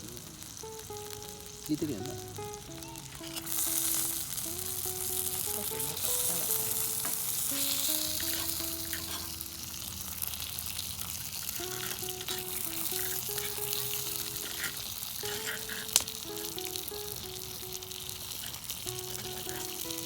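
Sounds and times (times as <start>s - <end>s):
background melody: 0.0s - 20.0s
food sizzling in a skillet: 0.0s - 20.0s.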